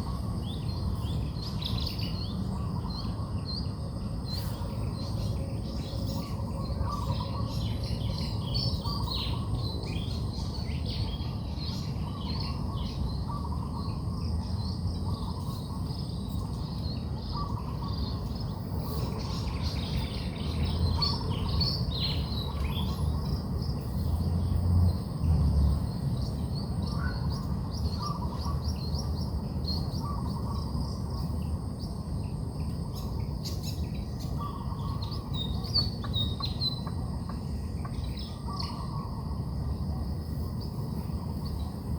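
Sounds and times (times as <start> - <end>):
birds singing and chirping: 0.0 - 41.9
steady low rumble: 0.0 - 41.9.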